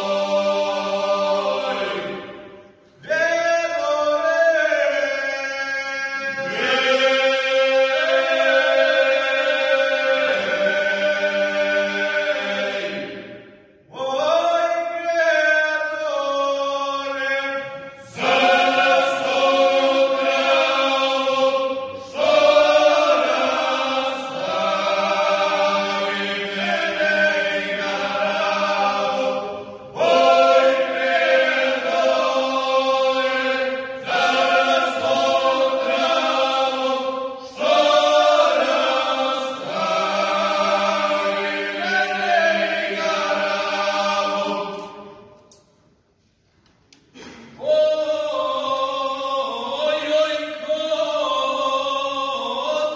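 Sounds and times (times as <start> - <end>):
men's folk choir singing: 0.0 - 45.4, 47.2 - 52.9.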